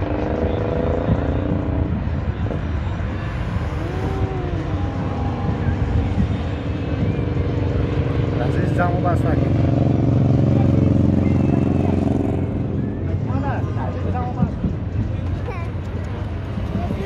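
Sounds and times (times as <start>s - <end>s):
distant fireworks rumble: 0.0s - 10.6s, 12.2s - 17.0s.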